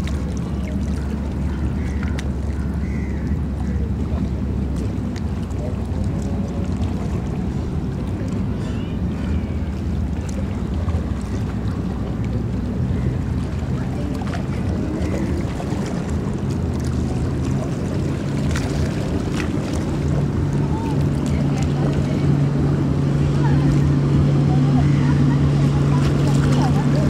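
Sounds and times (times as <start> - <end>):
ferry engines droning: 0.0 - 27.0
water wash: 0.0 - 27.0.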